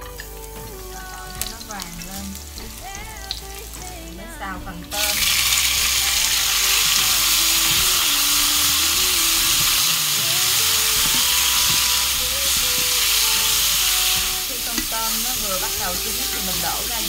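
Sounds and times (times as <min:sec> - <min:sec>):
shrimp sizzling in hot oil: 0:00.0 - 0:04.2, 0:04.8 - 0:17.0.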